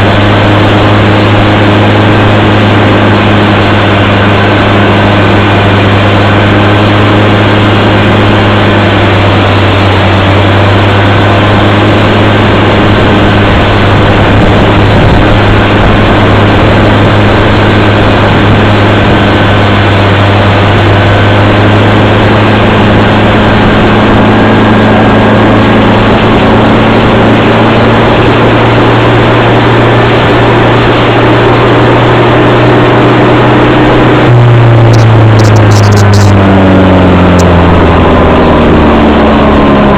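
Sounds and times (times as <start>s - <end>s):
circular sawmill drone: 0.0s - 39.9s.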